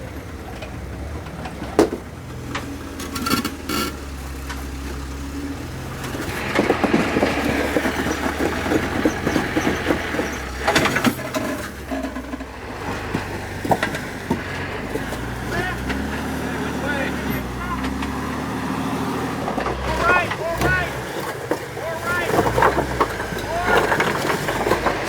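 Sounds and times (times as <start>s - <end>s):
off-road vehicle engine running: 0.0s - 25.0s
knocks and scraping on rocks: 0.3s - 25.0s.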